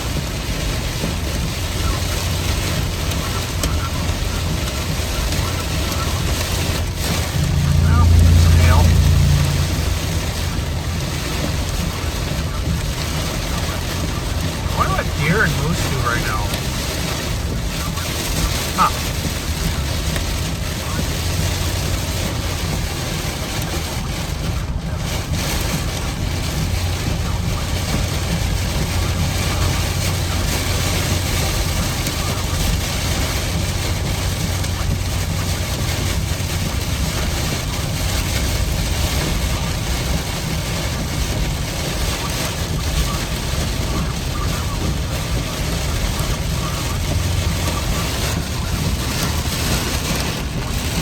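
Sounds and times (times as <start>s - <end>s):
car cabin road noise: 0.0s - 51.0s.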